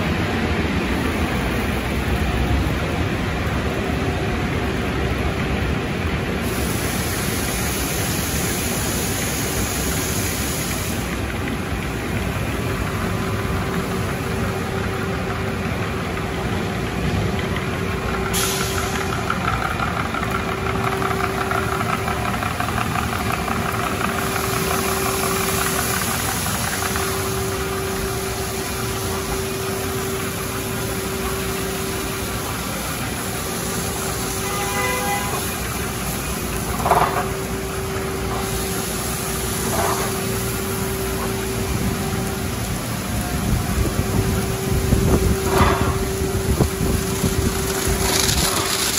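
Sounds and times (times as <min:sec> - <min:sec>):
car wash machinery running: 0:00.0 - 0:48.9.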